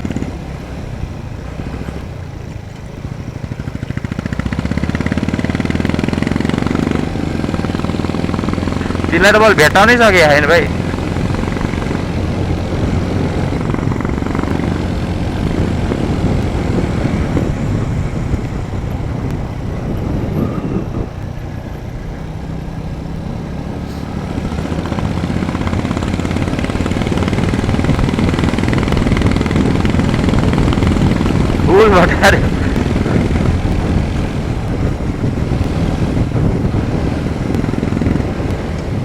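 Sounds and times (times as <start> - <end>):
motorcycle engine running: 0.0 - 39.0
wind noise on microphone: 4.0 - 39.0.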